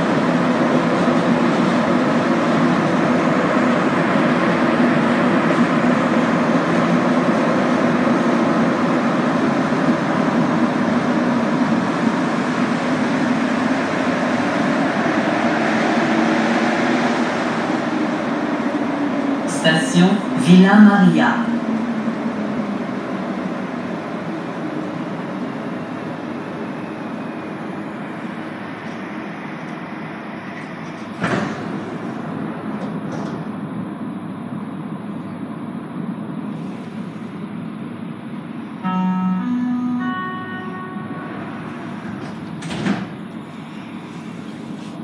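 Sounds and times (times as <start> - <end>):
train running through tunnel: 0.0 - 45.0.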